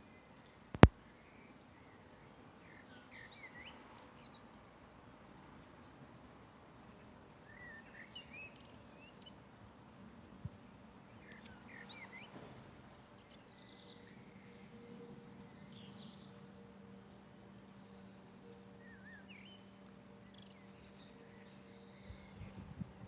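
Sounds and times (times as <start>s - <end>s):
faint songbirds chirping: 0.0s - 23.0s.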